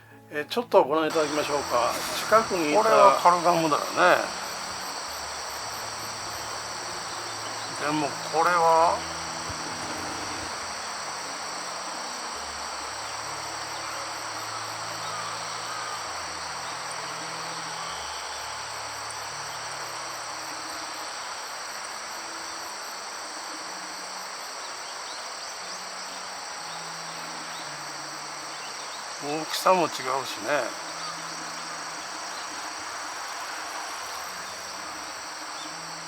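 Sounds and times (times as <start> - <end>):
background noise rush: 1.1 - 36.0
crickets and insects chirring: 1.1 - 36.0.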